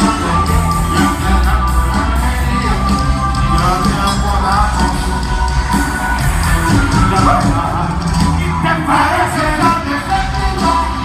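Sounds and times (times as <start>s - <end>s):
live band with brass and drums: 0.0s - 11.0s.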